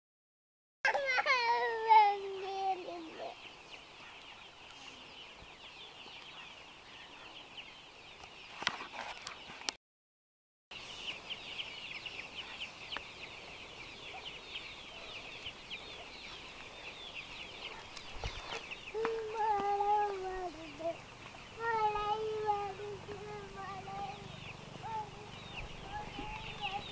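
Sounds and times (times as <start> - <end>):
chicks cheeping: 1.5 - 9.7, 10.8 - 26.9.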